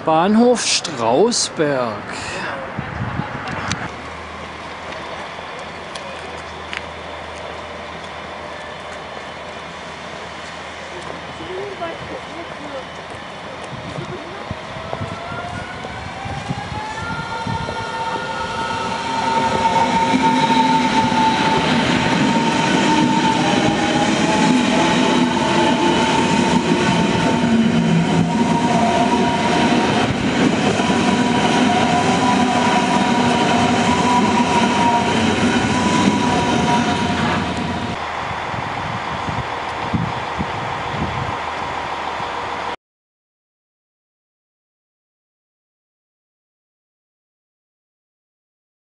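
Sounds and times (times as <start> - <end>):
wheels rumbling on rails: 2.0 - 42.8
electric train motors whining: 3.4 - 42.7.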